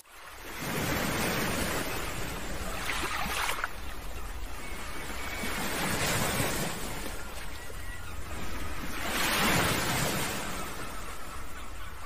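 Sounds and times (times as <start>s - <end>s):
small waves breaking on sand: 0.0s - 7.7s, 8.6s - 10.9s.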